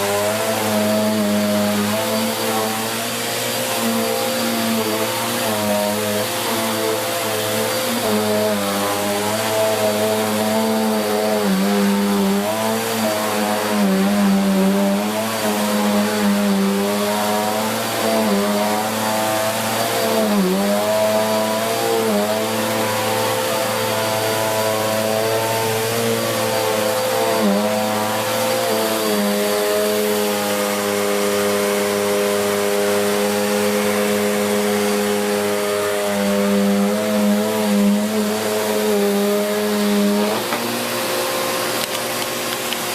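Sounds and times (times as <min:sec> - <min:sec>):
vacuum cleaner on carpet: 0:00.0 - 0:42.9.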